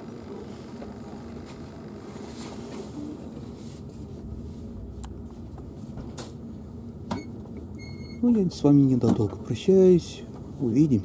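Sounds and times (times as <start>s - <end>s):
train carriage rumbling: 0.0s - 11.0s.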